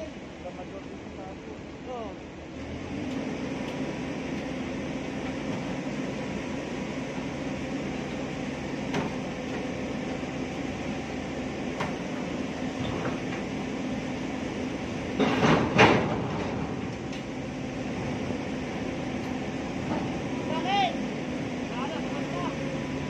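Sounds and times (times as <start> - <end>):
excavator diesel engine and hydraulics: 0.0 - 23.0.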